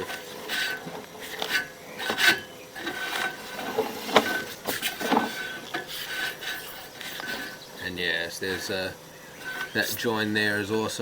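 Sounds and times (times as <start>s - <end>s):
cable scraping inside pipe: 0.0s - 10.1s.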